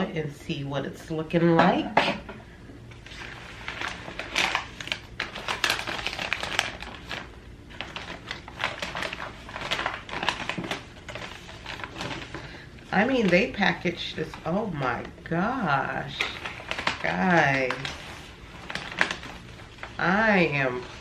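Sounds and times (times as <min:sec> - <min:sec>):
packaging crinkling and rustling: 0:02.9 - 0:21.0.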